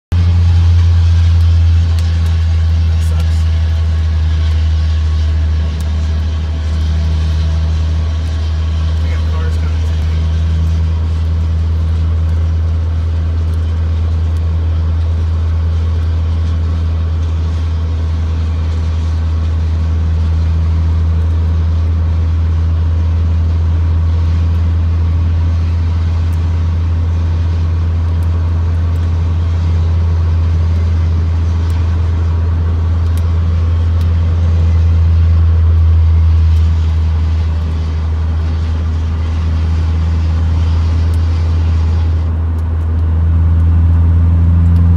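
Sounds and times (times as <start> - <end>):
vehicle cabin engine and road noise: 0.0 - 44.9.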